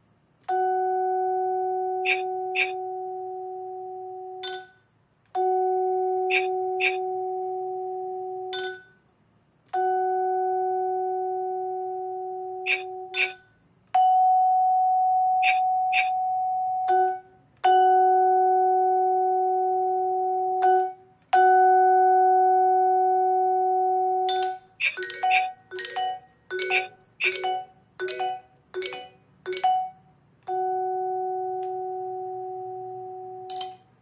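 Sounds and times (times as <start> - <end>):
vibraphone notes: 0.5 - 9.0, 9.7 - 33.9.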